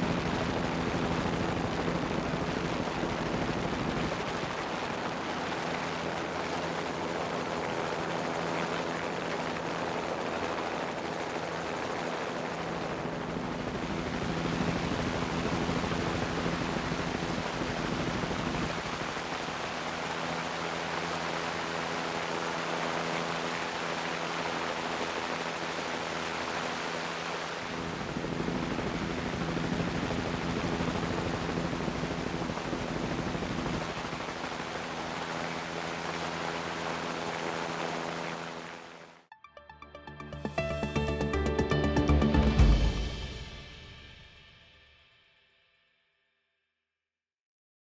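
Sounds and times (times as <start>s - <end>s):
aircraft engine hum: 0.0s - 39.2s.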